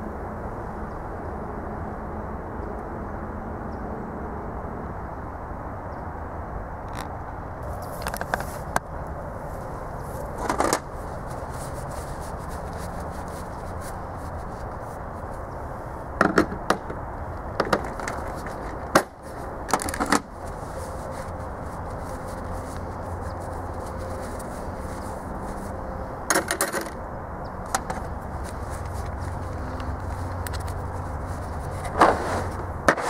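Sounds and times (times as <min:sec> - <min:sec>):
steady low background noise: 0:00.0 - 0:33.0.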